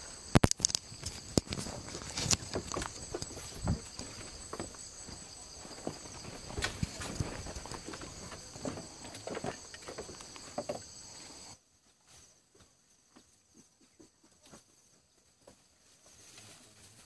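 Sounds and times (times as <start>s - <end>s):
irregular knocks and rustling: 0.6s - 11.3s, 11.9s - 17.0s.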